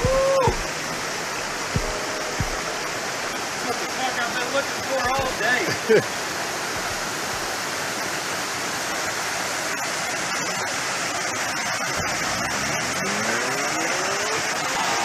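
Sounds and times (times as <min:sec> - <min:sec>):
creek rushing over boulders: 0:00.0 - 0:15.0.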